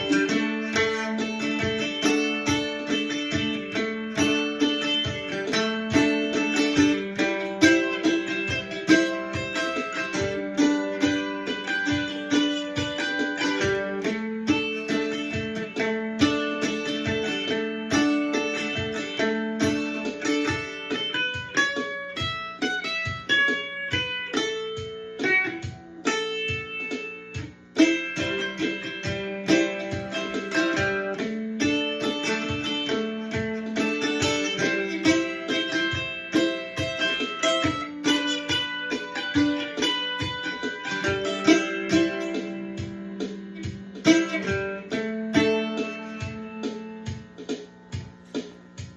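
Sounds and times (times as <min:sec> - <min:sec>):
mandolin picked note by note: 0:00.0 - 0:48.6.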